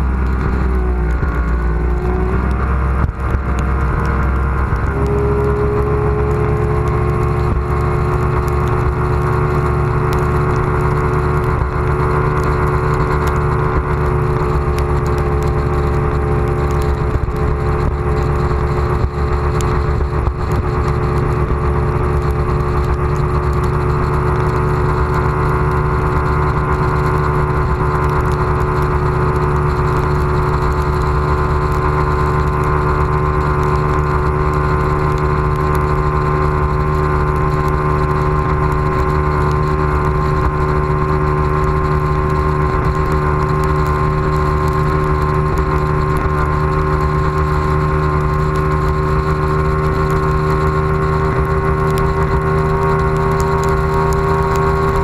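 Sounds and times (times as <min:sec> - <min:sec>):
outboard motor running: 0:00.0 - 0:55.0
rush of wind and water: 0:00.0 - 0:55.0.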